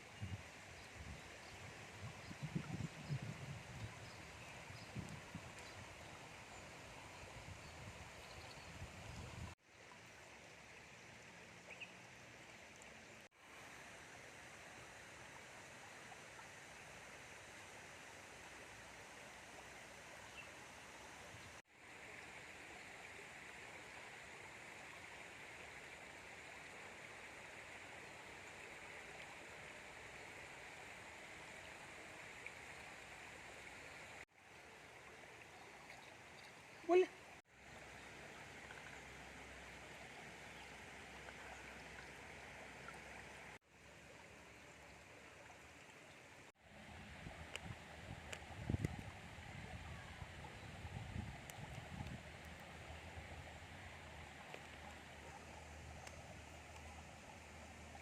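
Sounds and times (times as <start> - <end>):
faint river flowing: 0.0 - 58.0.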